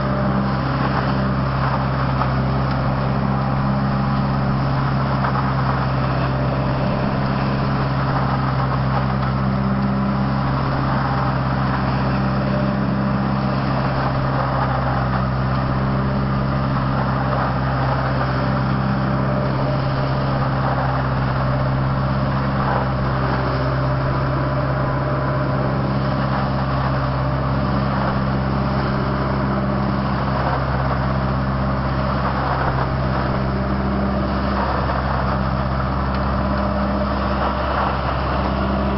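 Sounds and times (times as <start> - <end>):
truck engine drone: 0.0 - 38.9.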